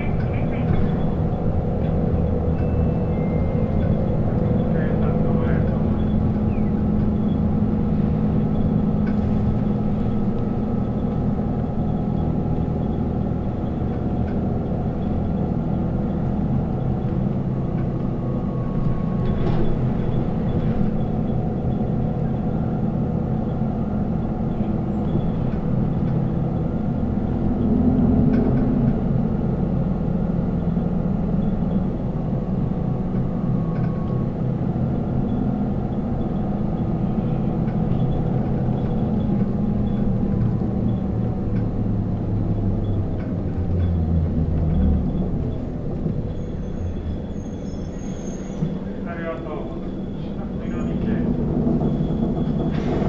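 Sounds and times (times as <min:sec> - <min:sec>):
bus engine drone from inside: 0:00.0 - 0:53.0.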